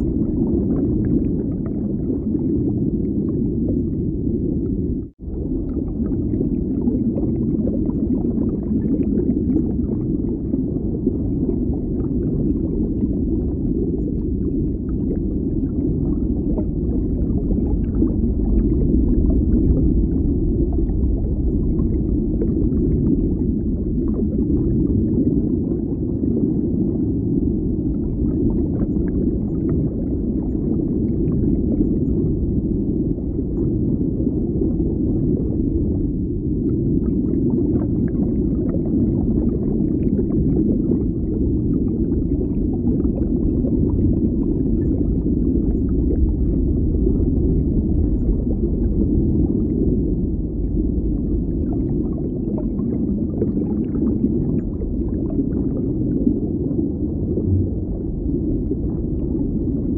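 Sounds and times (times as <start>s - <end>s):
muffled underwater rumble: 0.0s - 59.9s.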